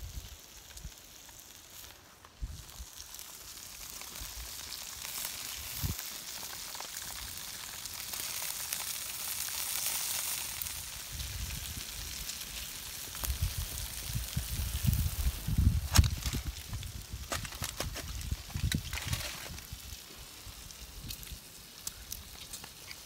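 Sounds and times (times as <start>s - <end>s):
bacon sizzling in a pan: 0.0s - 23.0s.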